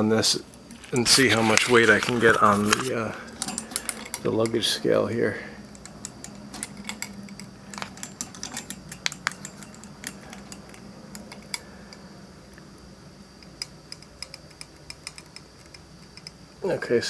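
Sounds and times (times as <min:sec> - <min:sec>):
faint steady hum: 0:00.0 - 0:17.0
small metallic clicks and clinks: 0:00.4 - 0:12.7, 0:13.4 - 0:16.4.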